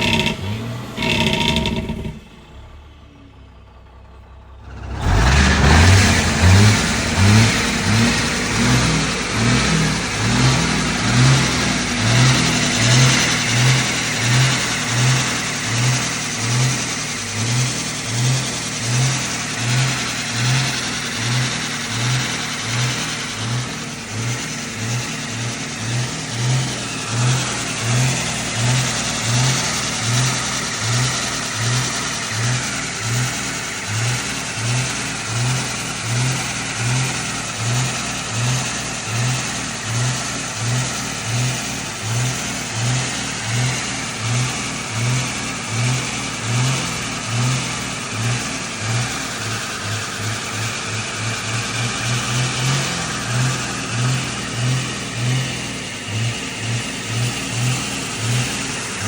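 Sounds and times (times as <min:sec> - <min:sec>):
truck engine throbbing: 0:00.0 - 0:59.0.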